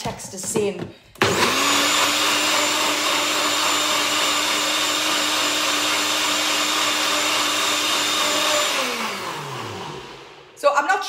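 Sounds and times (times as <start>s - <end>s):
blender motor whining: 1.2s - 10.6s.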